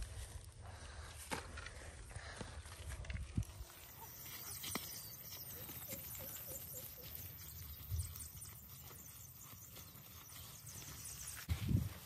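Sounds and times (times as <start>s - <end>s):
footsteps through grass and dirt: 0.0s - 12.0s.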